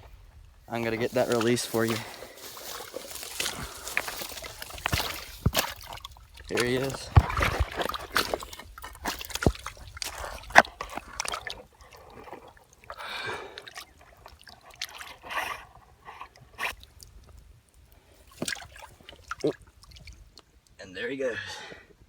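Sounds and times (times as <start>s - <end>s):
water sloshing and splashing: 0.0s - 20.8s.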